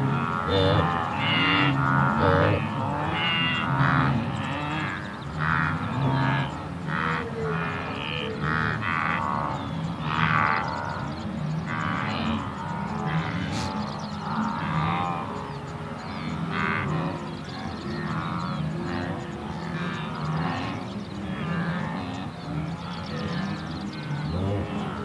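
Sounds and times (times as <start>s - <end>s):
animal calls: 0.0s - 25.0s
calm background music: 0.0s - 25.0s.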